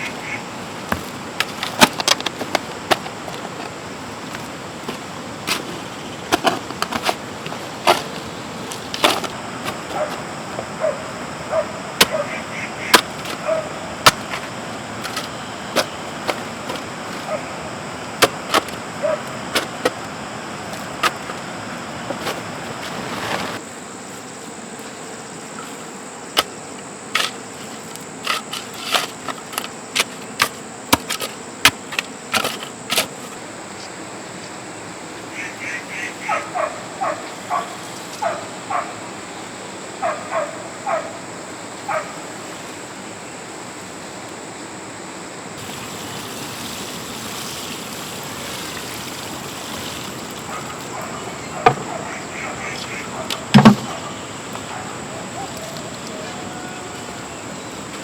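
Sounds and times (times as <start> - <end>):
background hiss: 0.0 - 58.0.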